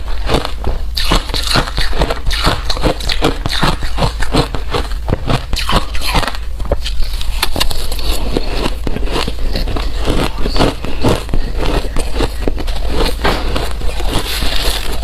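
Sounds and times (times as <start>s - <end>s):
ice crunching between teeth: 0.1s - 6.4s, 7.5s - 15.0s.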